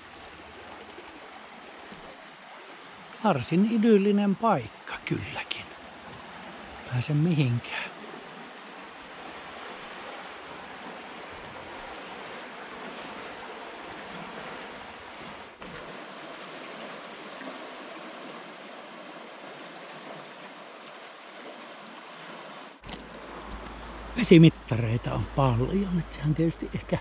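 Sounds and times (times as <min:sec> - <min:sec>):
river rapid rushing: 0:00.0 - 0:27.0.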